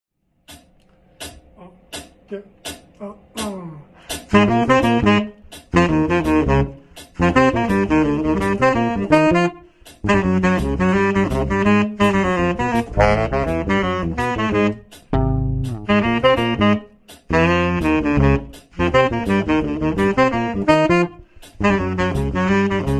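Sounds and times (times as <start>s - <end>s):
tenor saxophone playing jazz: 4.2s - 22.9s
electric bass playing: 4.3s - 22.9s.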